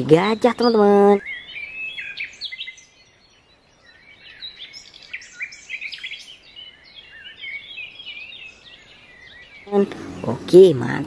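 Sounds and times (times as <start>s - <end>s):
faint outdoor background noise: 0.0s - 11.0s
small birds chirping: 0.0s - 11.0s.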